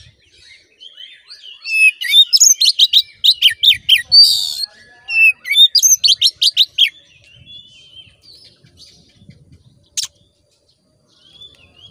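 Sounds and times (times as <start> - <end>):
bird singing: 0.0 - 11.9.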